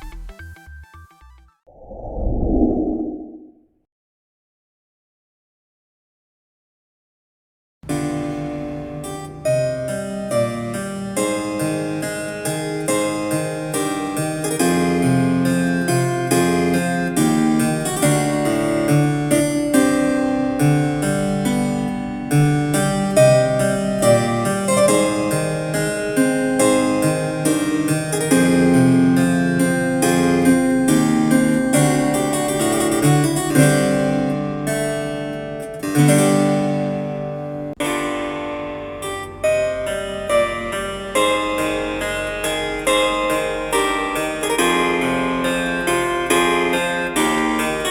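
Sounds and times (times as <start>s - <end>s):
classical keyboard music on small speaker: 7.8s - 47.9s.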